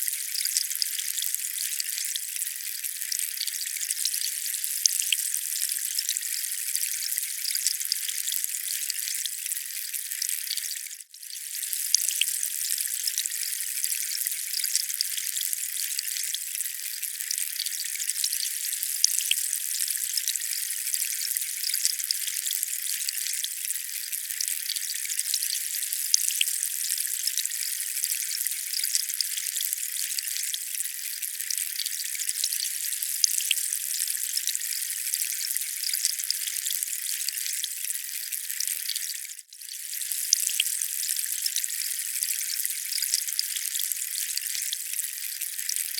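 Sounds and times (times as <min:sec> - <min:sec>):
tiny drip-like crackles: 0:00.0 - 0:45.9.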